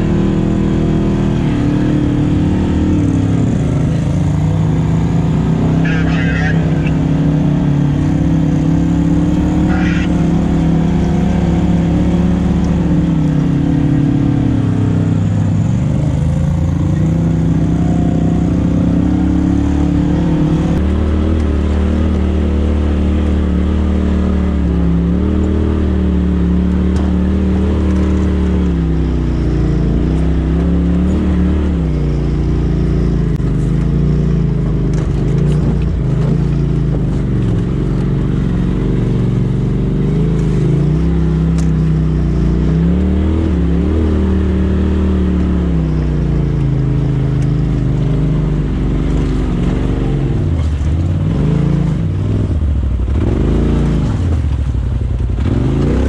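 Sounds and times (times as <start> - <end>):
engine revving unevenly: 0.0 - 56.0.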